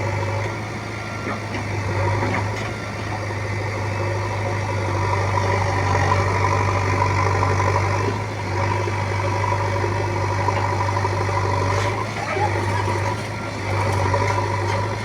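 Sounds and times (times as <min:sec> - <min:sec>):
diesel engine of heavy machinery: 0:00.0 - 0:15.0.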